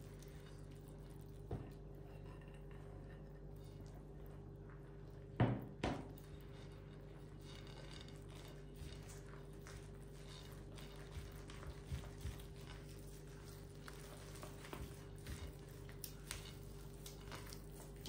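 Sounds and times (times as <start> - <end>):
dough squishing: 0.0 - 18.0.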